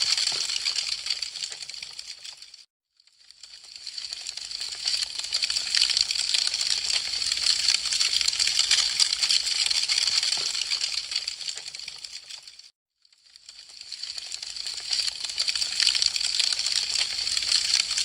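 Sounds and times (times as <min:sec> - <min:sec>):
wood fire crackling: 0:00.0 - 0:02.6, 0:03.3 - 0:12.6, 0:13.4 - 0:18.0.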